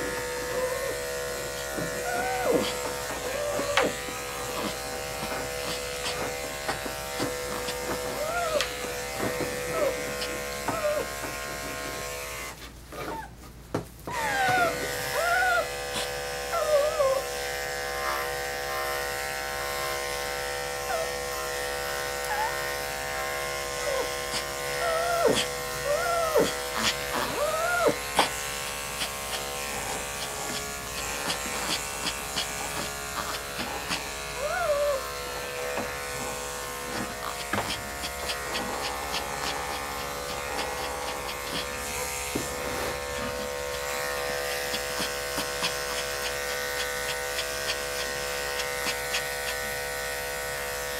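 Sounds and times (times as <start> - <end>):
dog whining: 0.0 - 6.5, 7.1 - 11.4, 12.9 - 13.4, 14.1 - 42.2, 42.8 - 49.7
electric clipper motor buzz: 0.0 - 12.6, 14.1 - 50.9.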